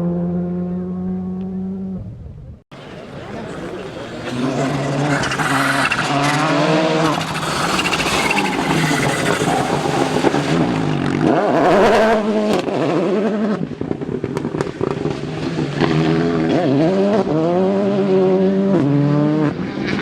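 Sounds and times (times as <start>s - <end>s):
rally car engine accelerating: 2.8s - 20.0s.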